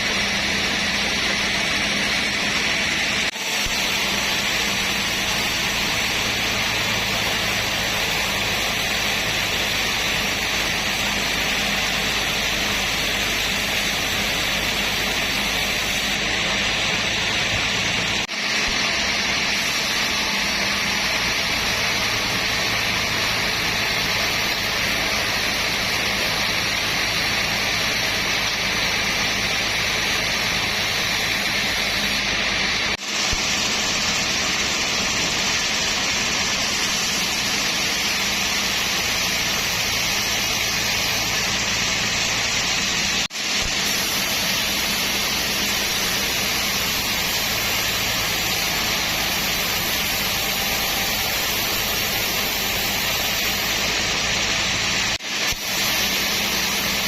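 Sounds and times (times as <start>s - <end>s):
sawmill machinery whirring: 0.0s - 57.0s.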